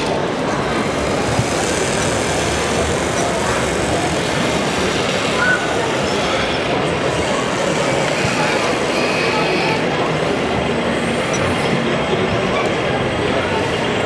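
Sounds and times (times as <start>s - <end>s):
murmur of voices: 0.0s - 14.0s
rc construction machines running: 0.0s - 14.0s.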